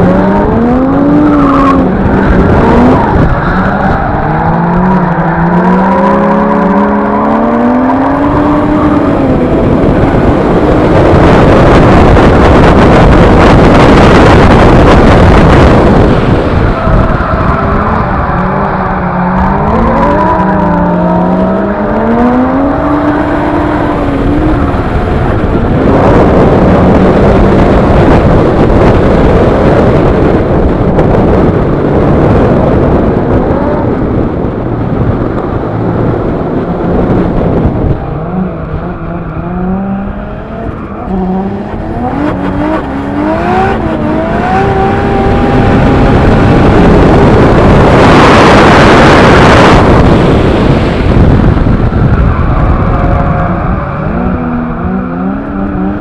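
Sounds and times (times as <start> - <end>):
car engine revving at high revs: 0.0 - 56.0
loud rushing noise: 0.0 - 56.0.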